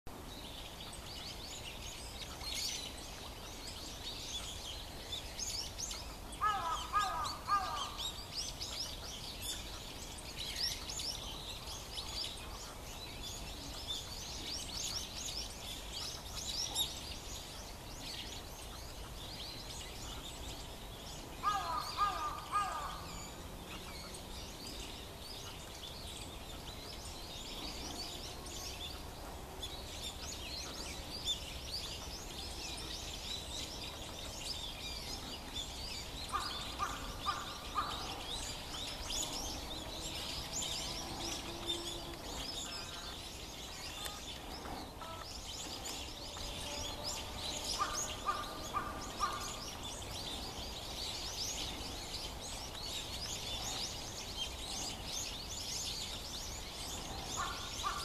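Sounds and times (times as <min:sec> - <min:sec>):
small birds chirping and twittering: 0:00.1 - 0:58.0.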